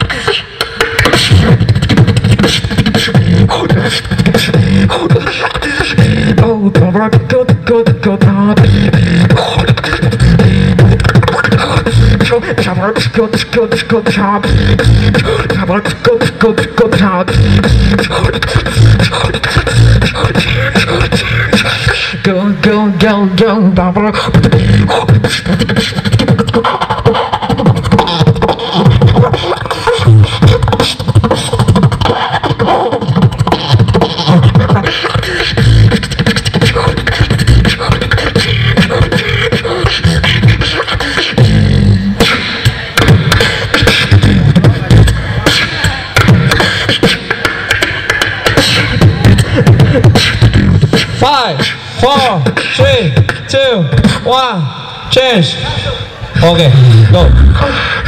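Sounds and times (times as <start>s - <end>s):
beatboxing into microphone: 0.0s - 58.0s
wavering pitched vocal sound: 0.0s - 58.0s.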